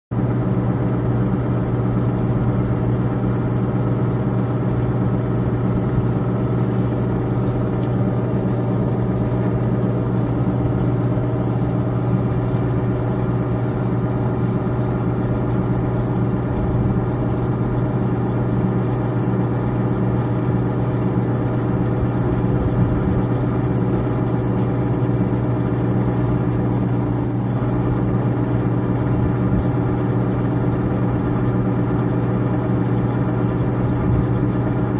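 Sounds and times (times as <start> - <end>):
steady low machine hum: 0.1 - 34.9.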